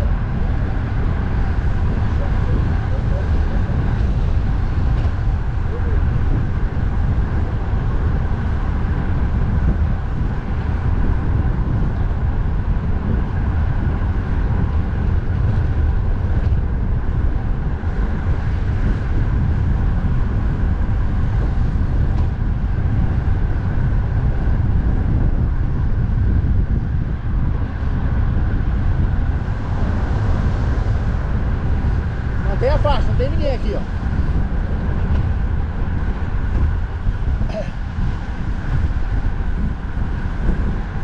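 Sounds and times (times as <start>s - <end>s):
expressway traffic: 0.0s - 41.0s
wind buffeting microphone: 0.0s - 41.0s.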